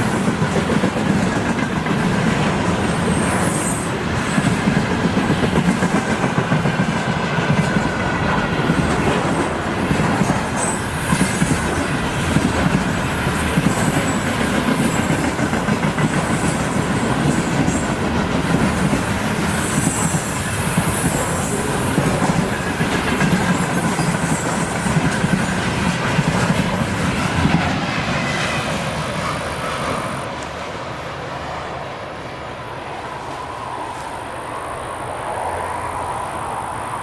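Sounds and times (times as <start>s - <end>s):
freight train wagons rolling: 0.0s - 31.1s.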